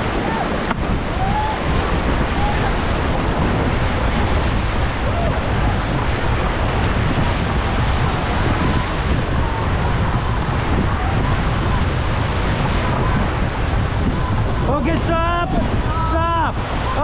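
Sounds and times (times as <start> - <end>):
river water roaring: 0.0 - 17.0
wind on microphone: 0.0 - 17.0.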